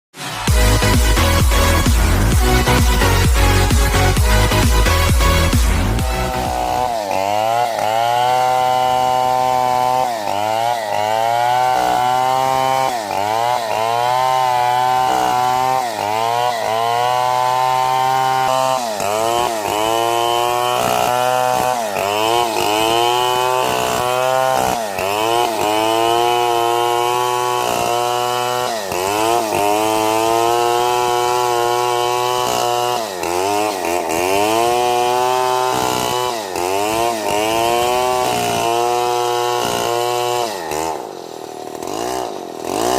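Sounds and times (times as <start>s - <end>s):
chainsaw cutting wood: 0.1s - 42.9s.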